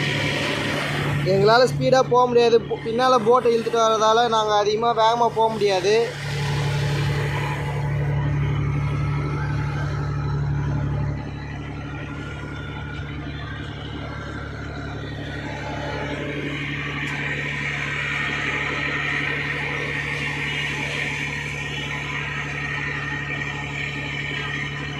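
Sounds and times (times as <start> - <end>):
boat engine running: 0.0 - 24.9.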